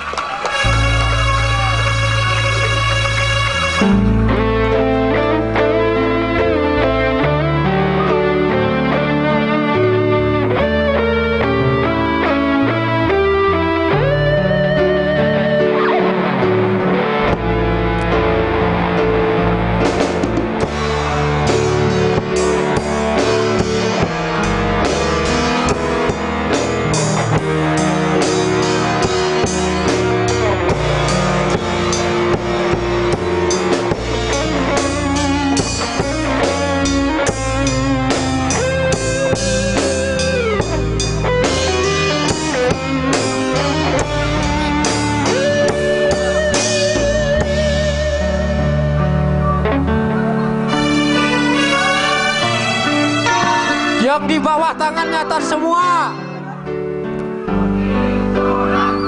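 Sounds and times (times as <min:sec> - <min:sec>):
drum kit: 0:00.0 - 0:54.6
guitars: 0:00.0 - 0:59.0
lead melody with vibrato: 0:00.5 - 0:59.0.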